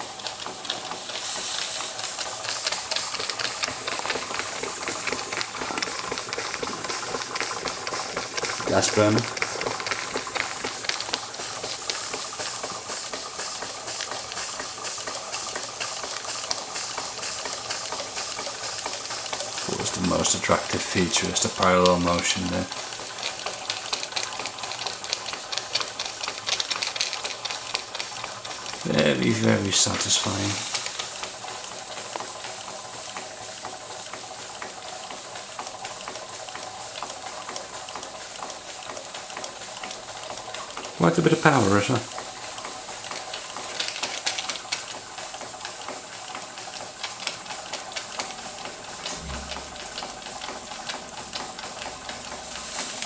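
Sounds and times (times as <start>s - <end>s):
steam engine hissing and clicking: 0.0s - 53.0s.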